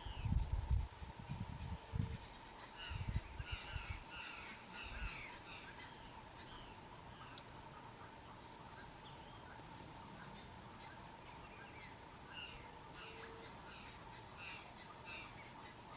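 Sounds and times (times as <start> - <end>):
insect drone: 0.0 - 15.9.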